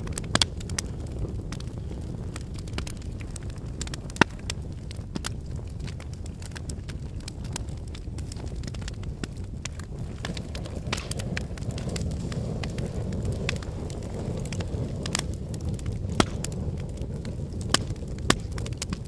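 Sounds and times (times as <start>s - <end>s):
sharp ticks and crackles: 0.0s - 19.0s.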